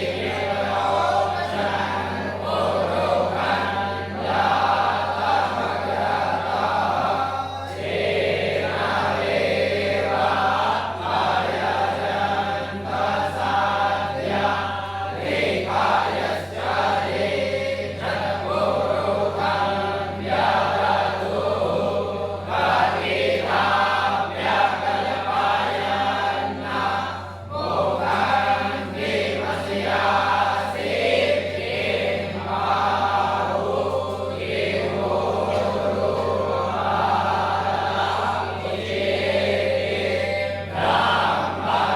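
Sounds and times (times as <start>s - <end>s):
group chanting in unison: 0.0s - 41.9s.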